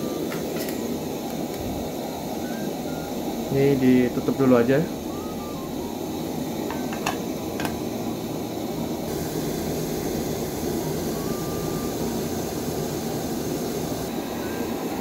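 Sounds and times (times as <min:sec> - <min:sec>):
camping stove burner roaring: 0:00.0 - 0:15.0.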